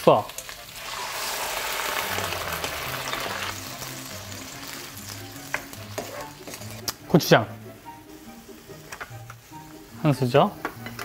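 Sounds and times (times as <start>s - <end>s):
food sizzling in a wok: 0.0s - 6.9s, 7.6s - 11.0s
soft background music: 0.0s - 11.0s.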